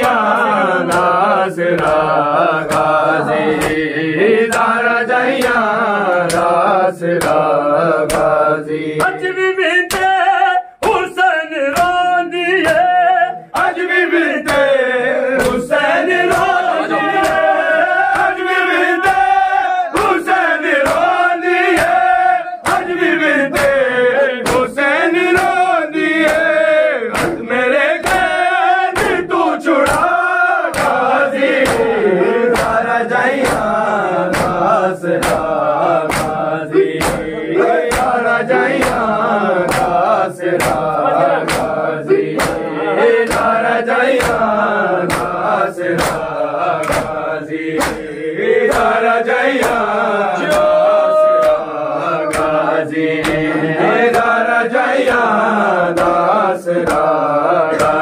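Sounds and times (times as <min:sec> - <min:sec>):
hands slapping chests: 0:00.0 - 0:08.4, 0:09.0 - 0:14.8, 0:15.4 - 0:58.0
men chanting a lament: 0:00.0 - 0:58.0.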